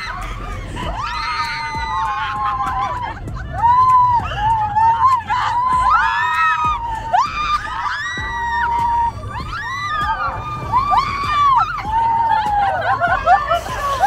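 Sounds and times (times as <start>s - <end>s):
riders screaming: 0.0s - 14.0s
roller coaster train rumbling: 0.0s - 14.0s
wind: 0.0s - 14.0s.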